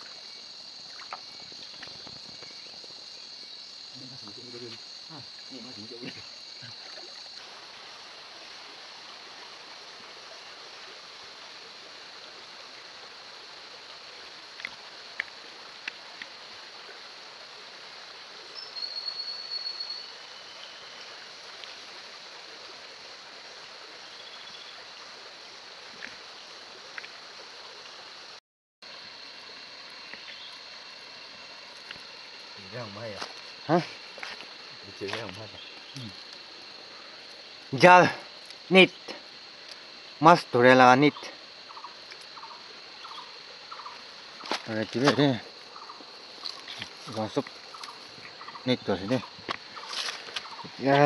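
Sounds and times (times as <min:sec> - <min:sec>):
high insect trill: 0:00.0 - 0:51.0.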